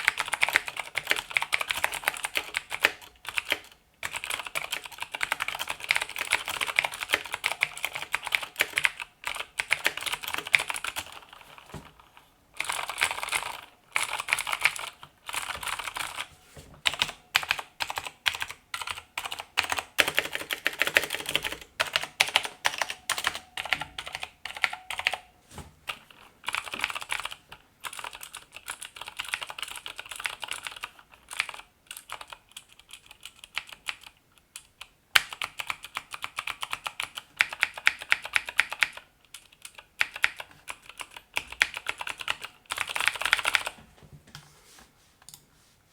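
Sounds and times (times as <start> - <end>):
fast mechanical keyboard typing: 0.0 - 25.2, 25.9 - 43.8.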